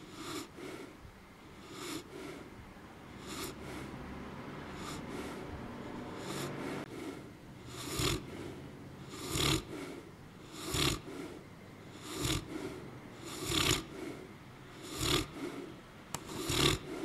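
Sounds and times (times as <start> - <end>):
dog snoring: 0.0 - 17.0.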